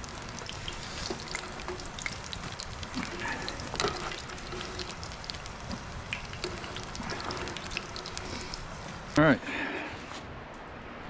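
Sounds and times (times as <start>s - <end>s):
hot oil sizzling: 0.0s - 9.2s
sharp pops and crackles: 0.0s - 9.2s.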